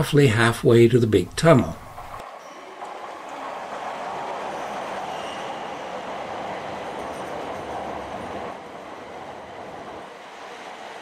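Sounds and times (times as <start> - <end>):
train cars rushing past: 1.8 - 11.0.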